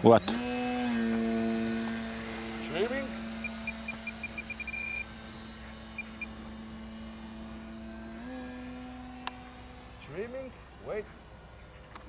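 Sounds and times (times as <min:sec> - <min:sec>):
electric motor and propeller humming: 0:00.0 - 0:12.0.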